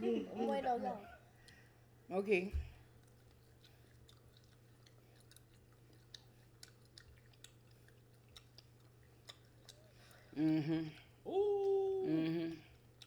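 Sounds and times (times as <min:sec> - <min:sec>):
low room hum: 0:00.0 - 0:13.0
faint chewing: 0:01.3 - 0:01.7, 0:02.7 - 0:13.0.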